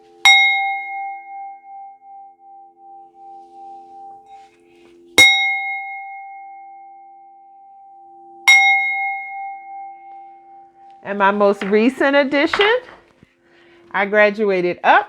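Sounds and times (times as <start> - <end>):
singing bowl ringing: 0.0 - 12.7.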